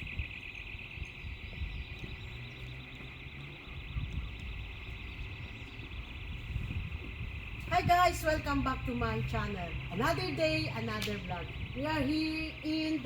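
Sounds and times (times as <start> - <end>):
high-pitched pulsing alarm: 0.0 - 13.0.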